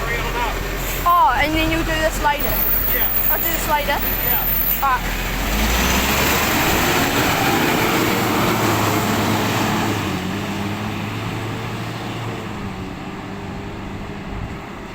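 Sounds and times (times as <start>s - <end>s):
truck diesel engine pulling away: 0.0s - 14.9s.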